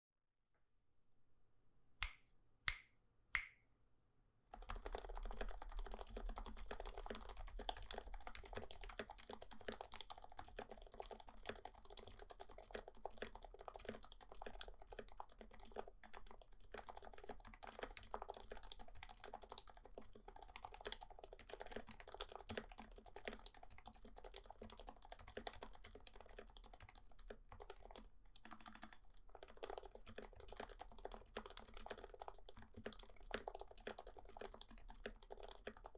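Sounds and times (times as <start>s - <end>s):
keyboard typing: 4.5s - 35.9s.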